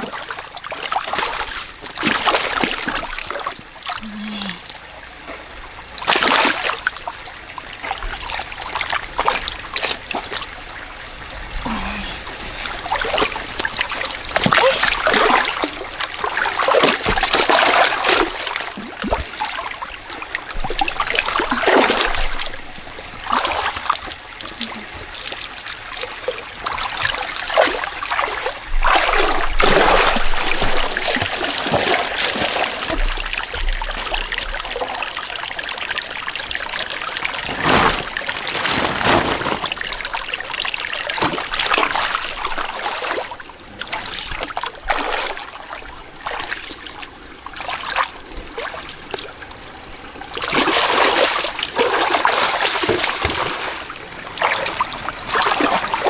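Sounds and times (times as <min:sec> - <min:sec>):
muddy water splashing: 0:00.0 - 0:56.0.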